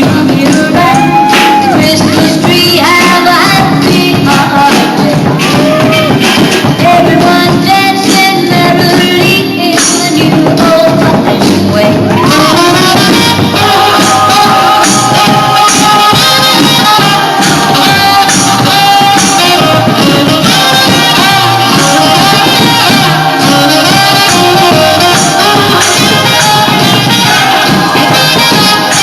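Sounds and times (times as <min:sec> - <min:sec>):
band playing a song: 0:00.0 - 0:29.0
person singing: 0:00.0 - 0:29.0.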